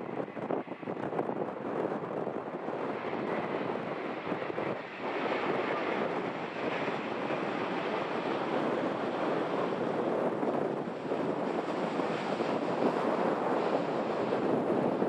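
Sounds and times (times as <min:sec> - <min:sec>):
jet engines rushing: 0:00.0 - 0:15.0
wind on microphone: 0:00.0 - 0:15.0.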